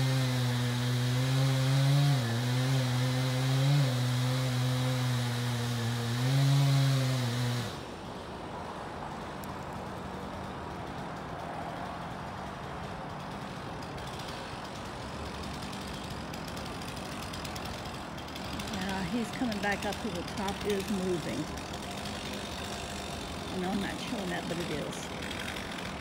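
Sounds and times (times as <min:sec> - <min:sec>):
chainsaw at high revs: 0:00.0 - 0:08.0, 0:12.0 - 0:26.0.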